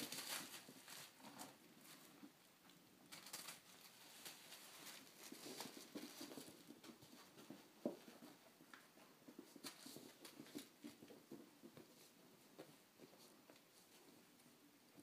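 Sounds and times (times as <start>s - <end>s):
kittens' paws pattering on carpet: 0.0s - 15.0s.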